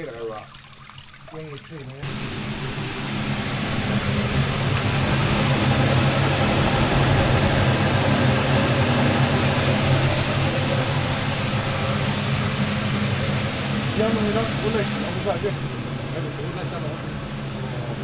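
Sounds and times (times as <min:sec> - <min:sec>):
loud rushing noise: 0:02.0 - 0:17.7
machine humming: 0:02.0 - 0:18.0.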